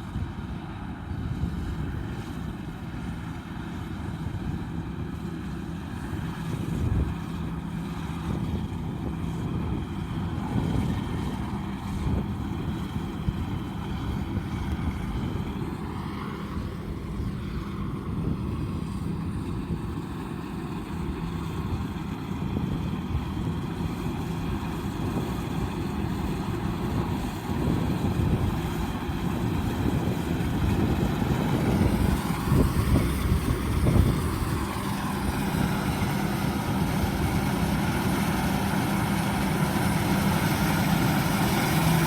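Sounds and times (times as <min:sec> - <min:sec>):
combine harvester engine running: 0:00.0 - 0:42.0.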